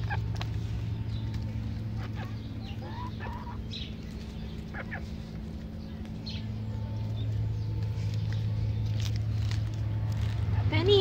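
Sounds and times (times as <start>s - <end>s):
chickens clucking: 0.0s - 9.5s
steady low hum: 0.0s - 11.0s.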